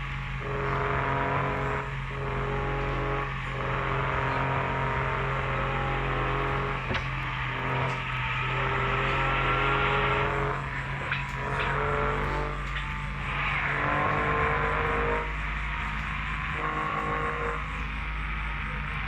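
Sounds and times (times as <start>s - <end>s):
road noise: 0.0s - 19.0s
vehicle engine running: 0.0s - 19.0s.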